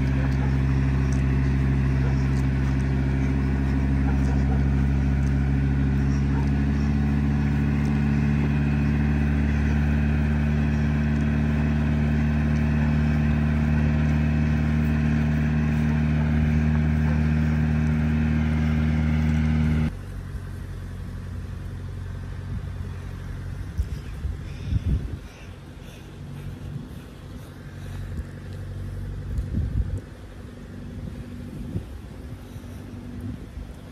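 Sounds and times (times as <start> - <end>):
outdoor ambience: 0.0 - 33.9
vehicle engine running: 0.0 - 33.9.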